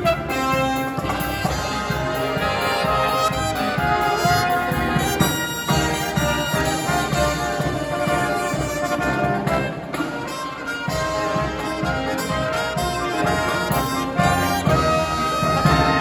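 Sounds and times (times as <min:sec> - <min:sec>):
trumpets and trombones playing chords: 0:00.0 - 0:16.0.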